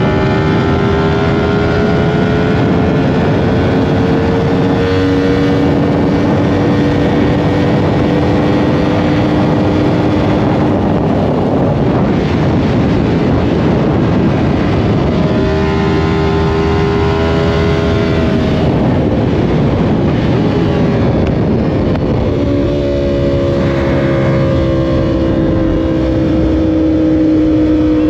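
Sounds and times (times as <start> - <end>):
motorcycle engine at speed: 0.0 - 28.0
rush of wind noise: 0.0 - 28.0.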